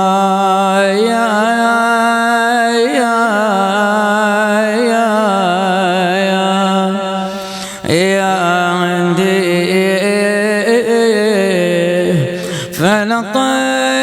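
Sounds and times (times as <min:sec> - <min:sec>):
man chanting a mournful elegy: 0:00.0 - 0:14.0.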